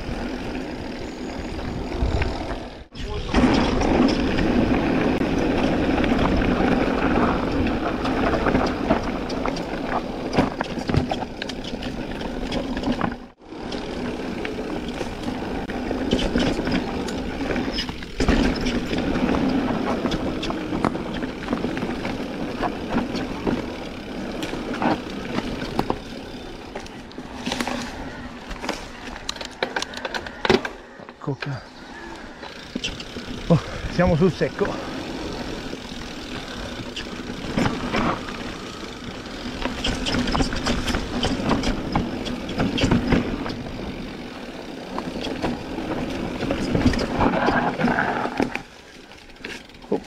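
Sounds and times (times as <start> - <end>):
bike rattling and knocking: 0.0 - 31.3, 32.3 - 50.0
bike rumbling on dirt trail: 0.0 - 50.0.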